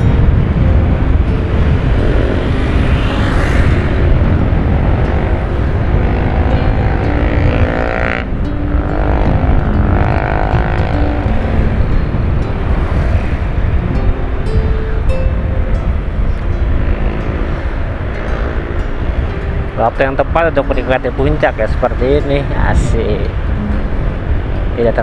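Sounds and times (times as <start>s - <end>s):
background music: 0.0s - 25.0s
vehicle engine and road rumble: 0.0s - 25.0s.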